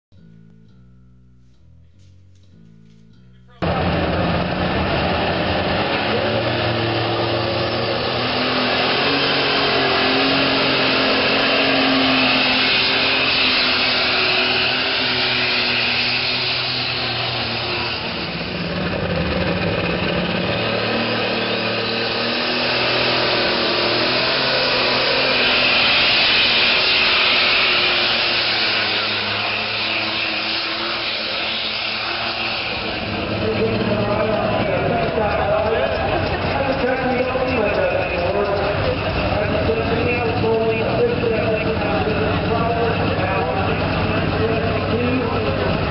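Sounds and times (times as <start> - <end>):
high turbo whine: 0.1 - 45.9
diesel engine running flat out: 3.6 - 45.9.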